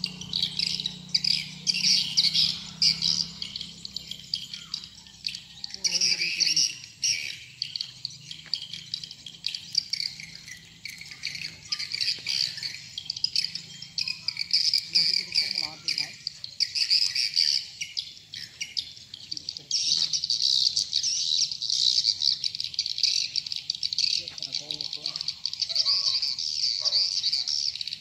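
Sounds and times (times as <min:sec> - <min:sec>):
swiftlets twittering: 0:00.0 - 0:28.0.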